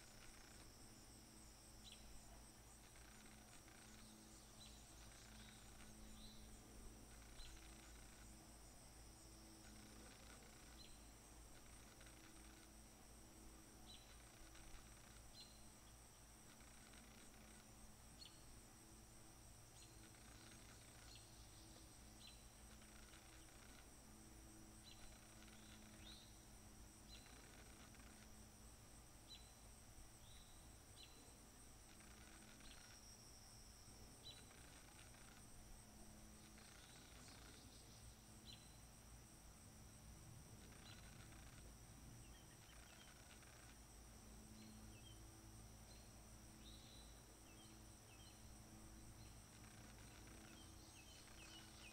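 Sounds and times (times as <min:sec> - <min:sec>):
high insect drone: 0:00.0 - 0:51.9.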